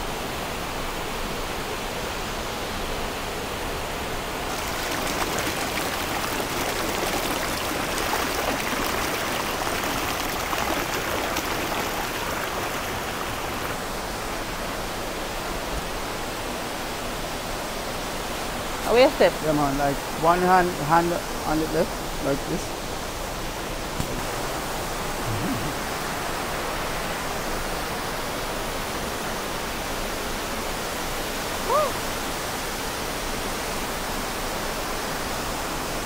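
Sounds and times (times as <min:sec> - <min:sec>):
stream running over rocks: 0:00.0 - 0:36.0
waterfall pouring into pool: 0:04.2 - 0:36.0.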